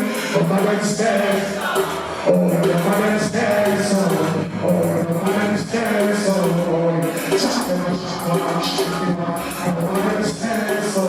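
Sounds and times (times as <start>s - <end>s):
dancehall reggae music: 0.0s - 11.0s
person singing: 0.0s - 11.0s.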